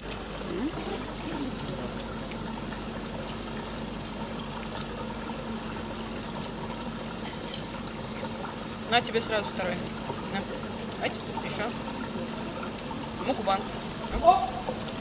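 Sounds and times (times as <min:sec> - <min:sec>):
low steady hum: 0:00.0 - 0:15.0
running water rushing: 0:00.0 - 0:15.0.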